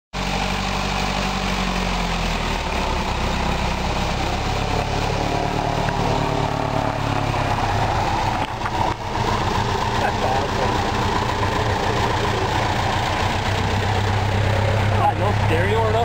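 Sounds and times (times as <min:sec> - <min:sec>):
light aircraft piston engine: 0:00.2 - 0:16.0.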